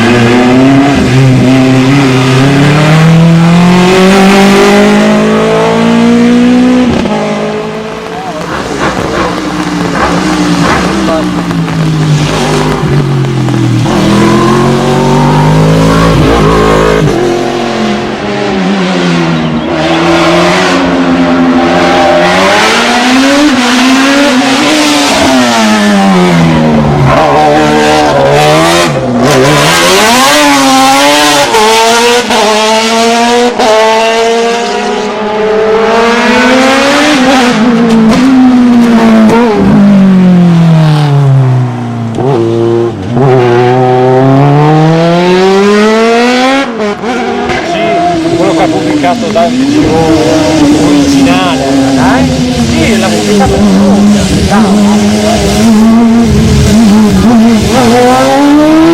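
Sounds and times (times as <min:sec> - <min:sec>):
racing car engine revving: 0:00.0 - 0:58.9.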